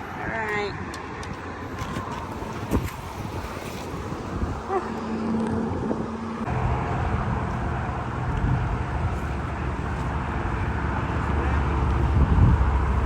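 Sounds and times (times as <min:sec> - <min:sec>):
traffic rumbling past: 0:00.0 - 0:13.0.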